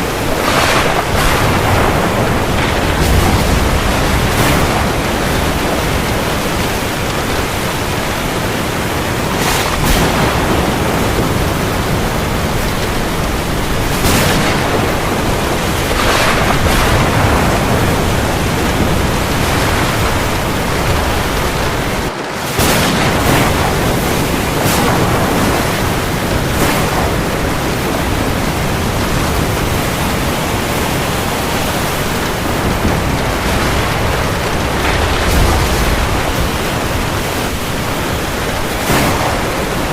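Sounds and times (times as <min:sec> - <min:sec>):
heavy rain over sea: 0:00.0 - 0:39.9
waves washing in: 0:00.0 - 0:39.9.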